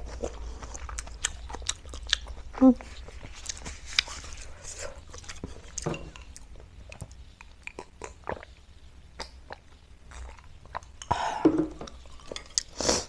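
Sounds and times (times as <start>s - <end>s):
chewing: 0.0s - 11.1s, 11.9s - 13.0s.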